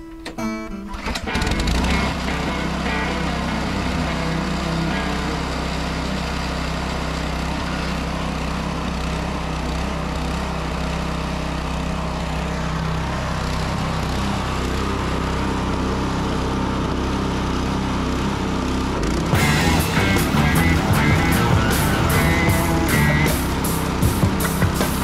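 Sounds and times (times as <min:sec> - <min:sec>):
snowblower engine running: 0:00.9 - 0:25.0.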